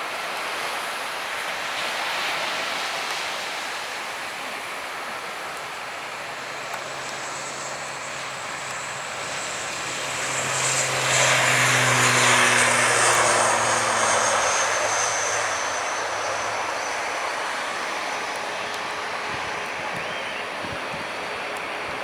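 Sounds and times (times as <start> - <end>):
airliner engines passing: 0.1 - 22.0.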